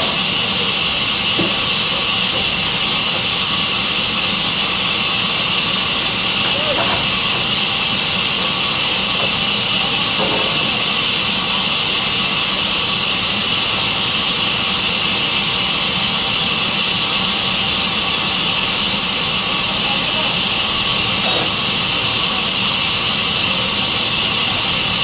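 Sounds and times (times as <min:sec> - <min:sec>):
sawmill saw running: 0:00.0 - 0:25.0.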